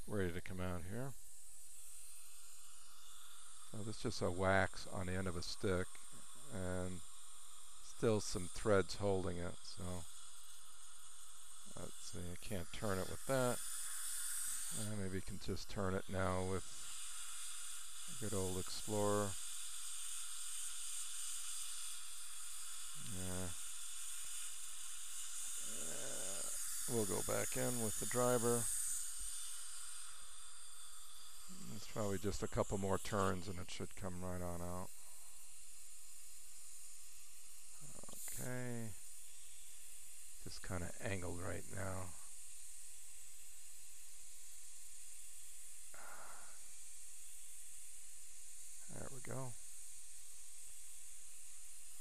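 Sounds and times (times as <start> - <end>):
high-pitched hiss: 0.0 - 52.0
breath-like rush of noise: 1.0 - 44.7, 45.3 - 49.5.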